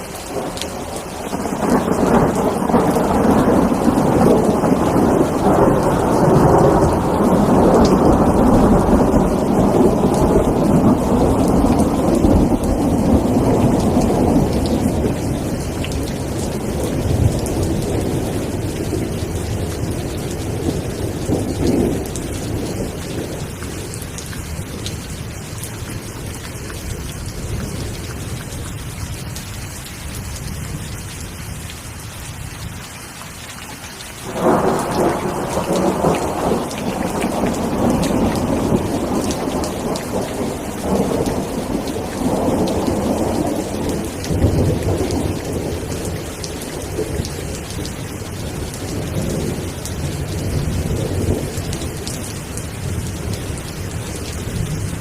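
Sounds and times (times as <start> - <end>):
steady rain: 0.0 - 55.0
rolling thunder: 0.3 - 24.1, 34.2 - 55.0.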